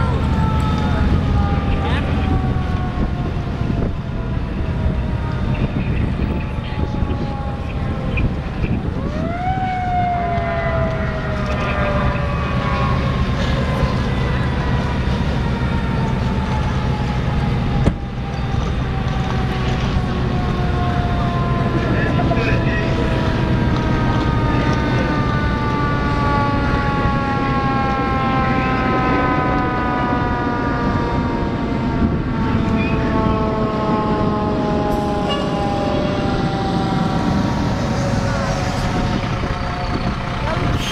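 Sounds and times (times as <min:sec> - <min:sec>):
fire engine engine rumbling: 0:00.0 - 0:40.9
siren winding up and falling: 0:06.8 - 0:40.6.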